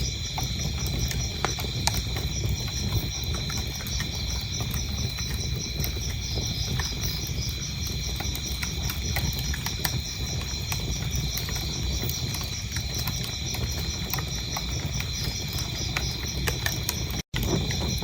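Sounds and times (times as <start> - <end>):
crickets chirping: 0.0 - 18.0
wood fire crackling: 0.0 - 18.0.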